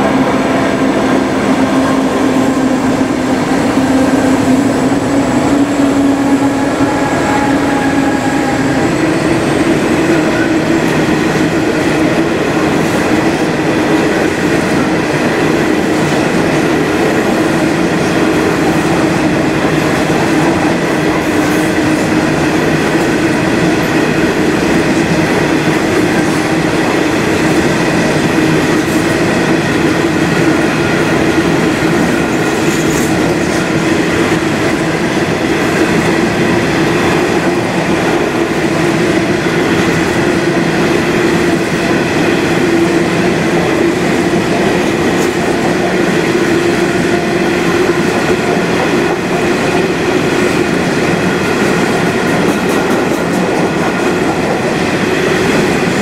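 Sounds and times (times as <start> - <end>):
diesel locomotive droning: 0.0 - 56.0.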